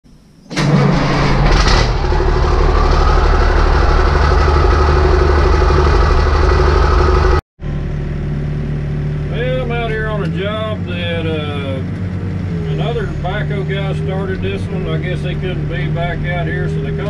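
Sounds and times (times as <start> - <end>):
large engine running: 0.5 - 17.0.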